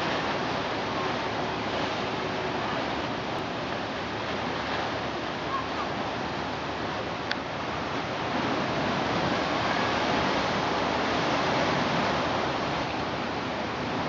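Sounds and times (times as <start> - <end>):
rushing seaside ambience: 0.0 - 14.0.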